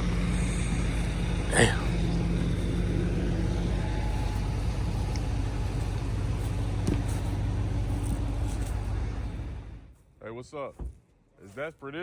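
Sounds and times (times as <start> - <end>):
digging machine engine humming: 0.0 - 10.0.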